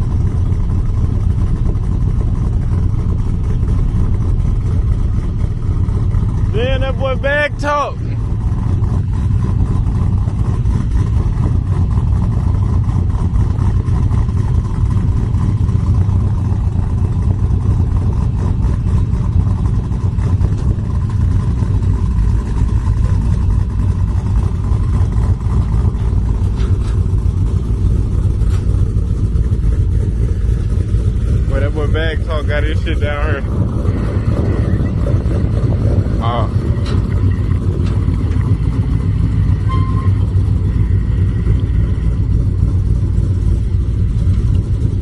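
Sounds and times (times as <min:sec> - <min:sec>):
vehicle road and engine rumble: 0:00.0 - 0:45.0.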